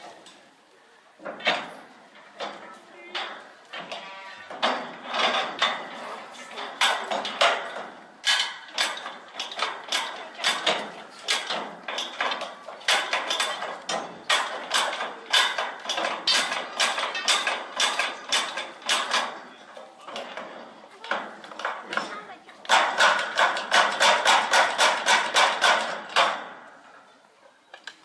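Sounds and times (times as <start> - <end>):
lifting jack clanking: 1.2 - 26.7.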